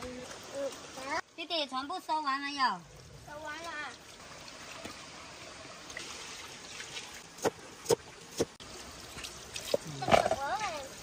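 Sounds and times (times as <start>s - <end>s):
water running from hose: 0.0s - 11.0s.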